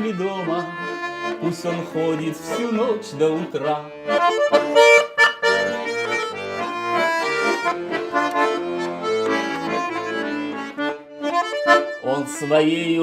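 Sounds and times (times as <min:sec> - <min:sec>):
accordion folk melody: 0:00.0 - 0:13.0.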